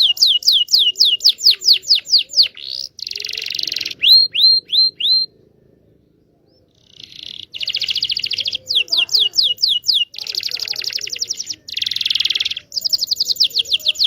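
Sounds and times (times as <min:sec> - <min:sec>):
canary singing: 0:00.0 - 0:14.0.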